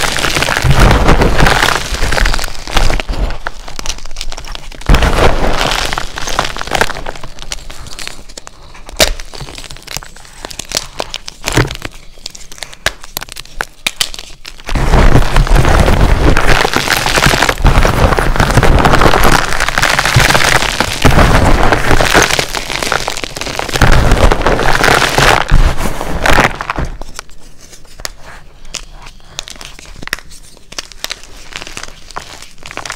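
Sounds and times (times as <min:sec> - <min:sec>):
chalk blocks cracking and crunching: 0:00.0 - 0:32.9.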